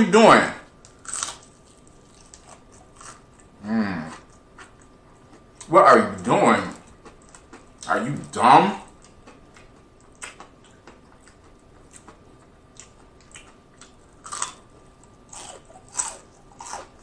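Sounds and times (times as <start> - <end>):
chewing crispy fried chicken: 0.8 - 17.0.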